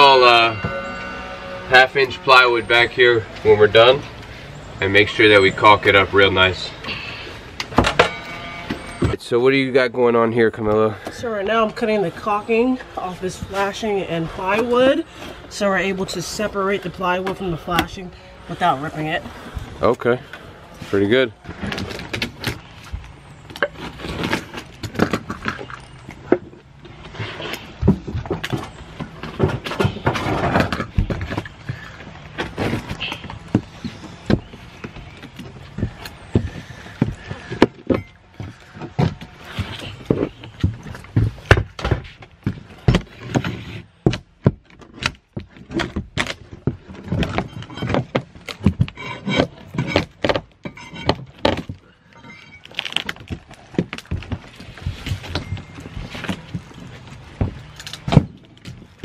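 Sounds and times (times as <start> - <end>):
wood cracking and scraping: 0.0 - 9.3, 19.2 - 59.0.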